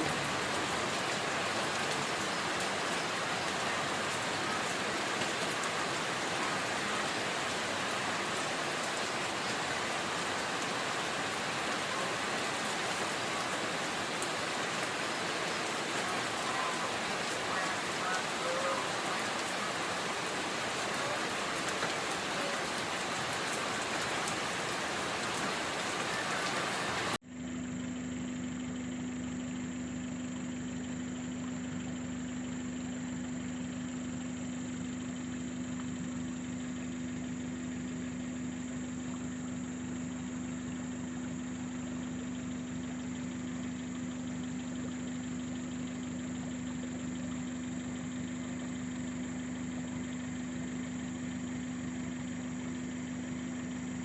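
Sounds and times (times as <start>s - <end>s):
steady rain: 0.0s - 27.2s, 31.7s - 54.0s
steady mechanical hum: 0.0s - 54.0s.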